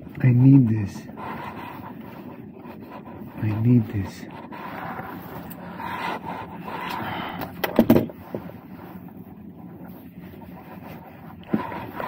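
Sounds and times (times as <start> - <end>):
low running hum: 0.0 - 12.0.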